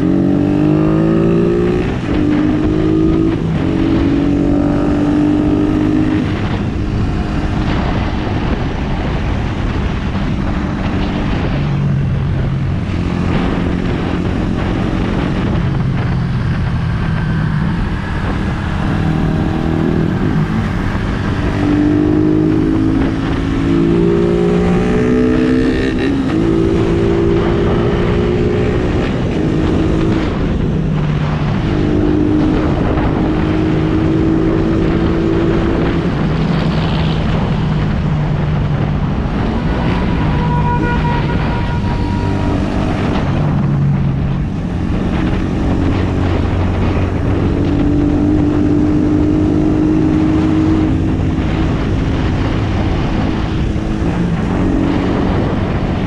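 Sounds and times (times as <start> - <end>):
motorcycle engine accelerating: 0.0 - 56.0
road and wind noise: 0.0 - 56.0.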